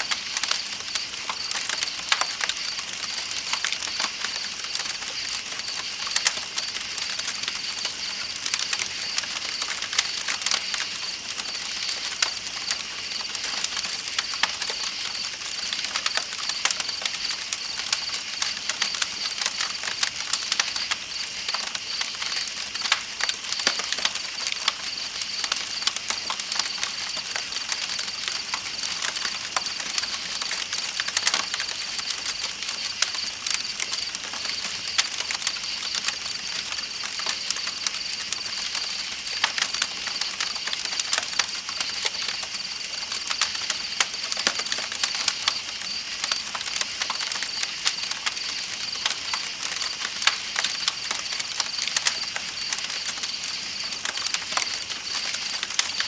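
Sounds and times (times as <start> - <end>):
campfire crackling and popping: 0.0 - 56.0
night insects trilling: 0.0 - 56.0.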